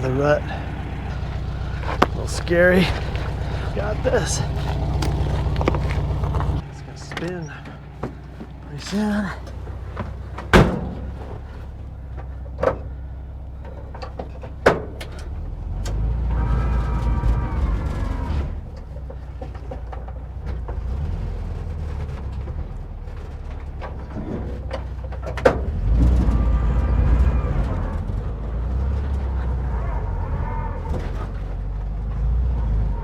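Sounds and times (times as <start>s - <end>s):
van engine revving: 0.0s - 33.0s.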